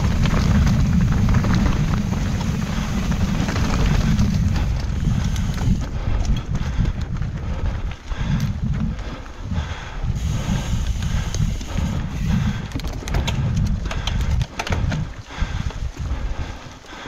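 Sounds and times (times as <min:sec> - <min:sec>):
bike tyres rumbling on dirt: 0:00.0 - 0:17.0
wind on microphone: 0:00.0 - 0:17.0.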